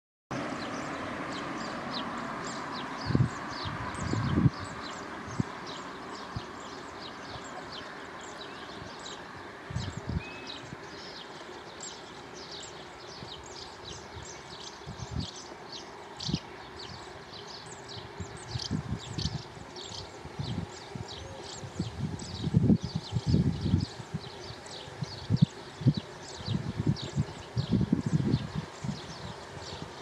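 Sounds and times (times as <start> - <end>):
birds chirping: 0.4 - 30.0.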